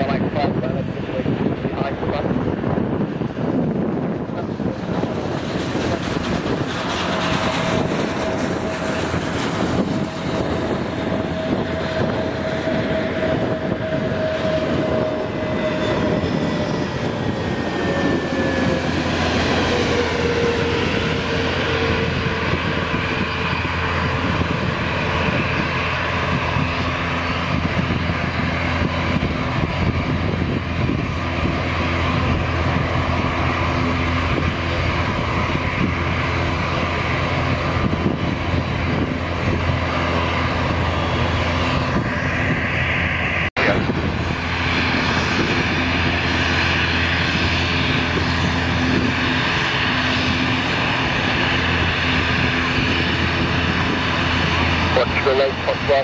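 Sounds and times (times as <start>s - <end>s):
jet engines landing: 0.0s - 56.0s.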